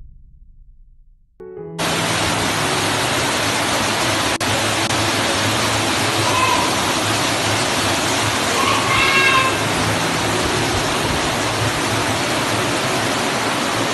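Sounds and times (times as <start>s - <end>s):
floodwater rushing through a house: 1.8s - 13.9s.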